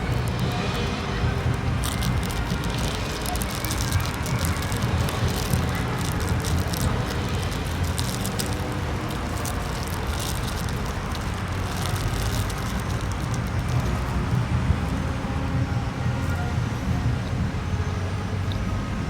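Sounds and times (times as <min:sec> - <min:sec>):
light crackles: 0:00.0 - 0:15.6
motor vehicle rumble: 0:00.0 - 0:19.0.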